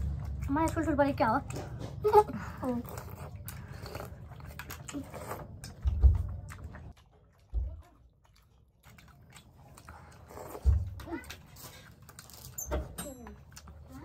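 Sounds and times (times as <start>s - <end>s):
people chewing: 0.0s - 14.0s.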